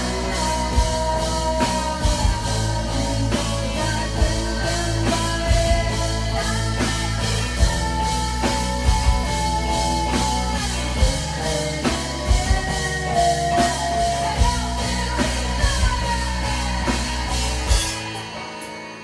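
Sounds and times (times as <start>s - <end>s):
drum kit beating: 0.0s - 19.0s
live rock band playing: 0.0s - 19.0s.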